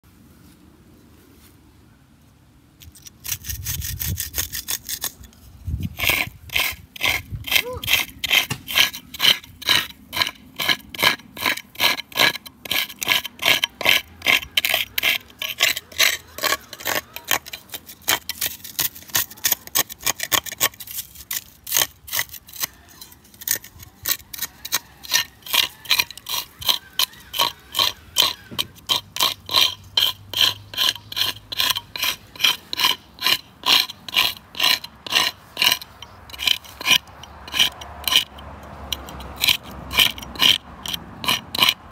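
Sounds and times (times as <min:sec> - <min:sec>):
metal scraper rasping on bark: 0:02.8 - 0:41.9.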